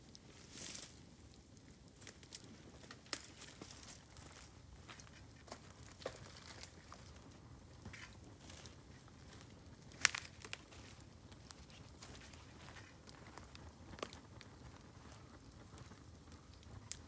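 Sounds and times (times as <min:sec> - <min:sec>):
bamboo crackling and popping in fire: 0:00.0 - 0:17.0.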